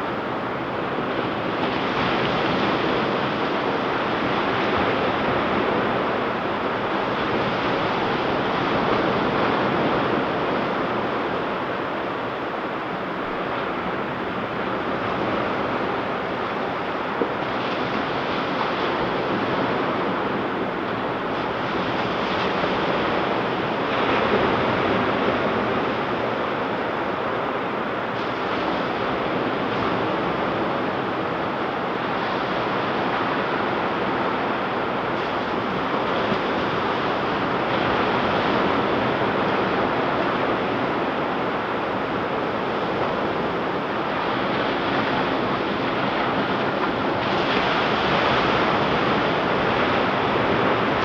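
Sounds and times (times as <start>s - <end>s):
ocean waves breaking on beach: 0.0s - 51.0s.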